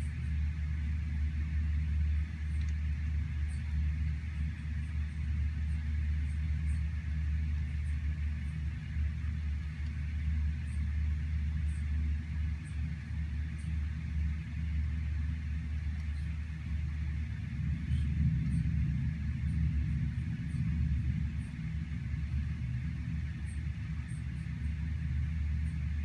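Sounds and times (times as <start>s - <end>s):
constant low rumble: 0.0s - 26.0s.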